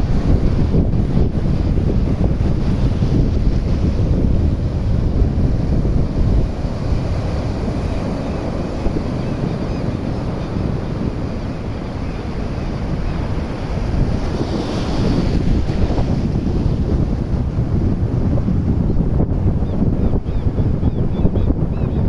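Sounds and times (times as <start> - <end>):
ocean surf washing on beach: 0.0 - 19.6
wind buffeting microphone: 0.0 - 22.0.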